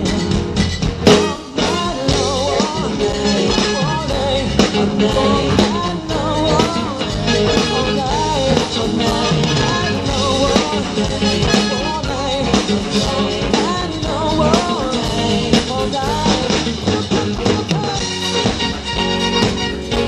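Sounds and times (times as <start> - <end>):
live rock band playing: 0.0 - 20.0
sliding melody line: 0.0 - 20.0.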